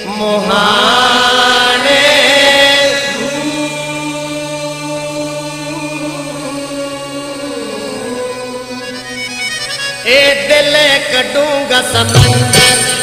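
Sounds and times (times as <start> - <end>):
low instrumental drone: 0.0 - 13.0
person singing devotional song: 0.0 - 13.0.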